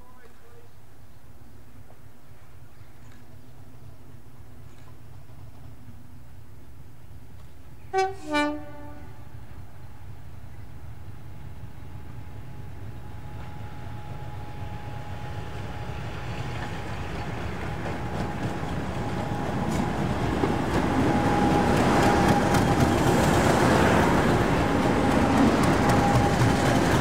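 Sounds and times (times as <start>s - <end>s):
diesel locomotive hauling train: 0.0s - 27.0s.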